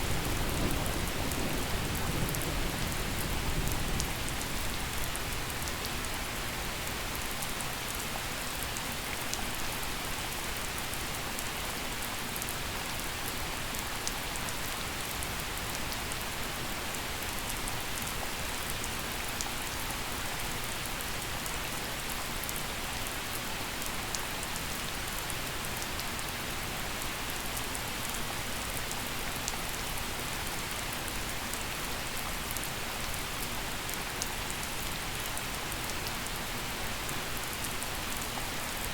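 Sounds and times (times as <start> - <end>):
gentle rain hiss: 0.0 - 38.9.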